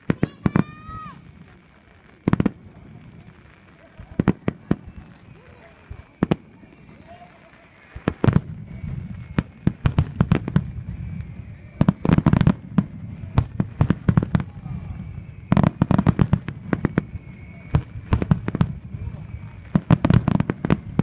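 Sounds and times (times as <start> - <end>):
fireworks cracking and banging: 0.0 - 21.0.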